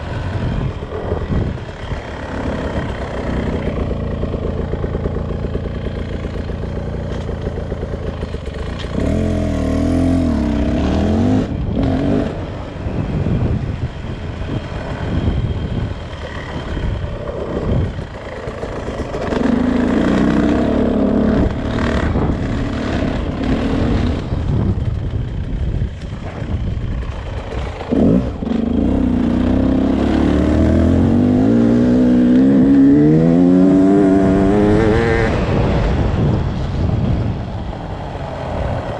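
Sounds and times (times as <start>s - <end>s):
two-stroke engine revving: 0.0s - 12.5s, 14.8s - 24.8s, 27.3s - 36.4s.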